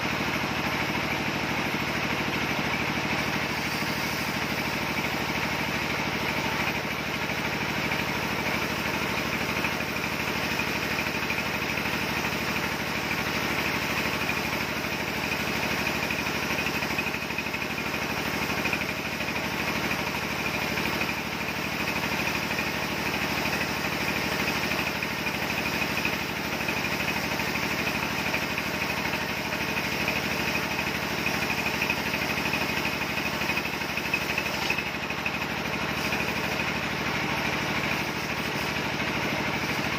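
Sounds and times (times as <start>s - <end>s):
bandsaw mill sawing log: 0.0s - 39.9s.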